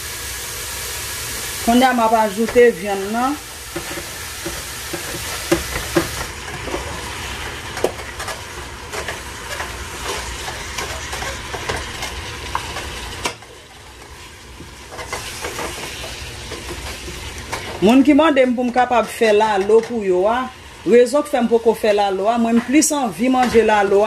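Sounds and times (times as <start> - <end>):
meat sizzling in a pan: 0.0 - 24.0.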